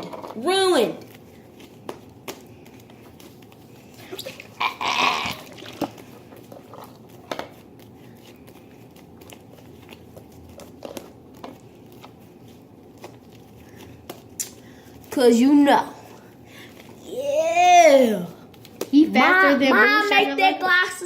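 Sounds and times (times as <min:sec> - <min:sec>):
slime squishing: 0:00.0 - 0:20.2.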